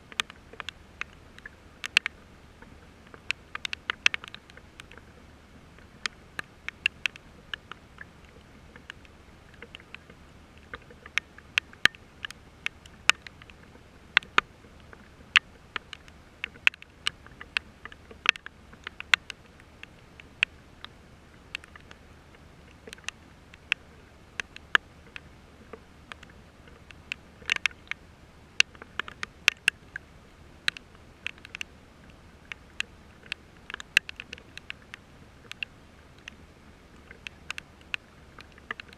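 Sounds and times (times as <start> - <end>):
faint low hum: 0.0 - 38.9
raindrops ticking near microphone: 0.0 - 38.9.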